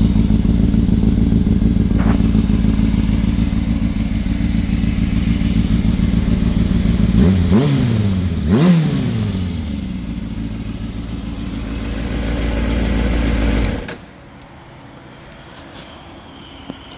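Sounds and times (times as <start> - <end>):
motorcycle engine idling and revving: 0.0 - 14.3.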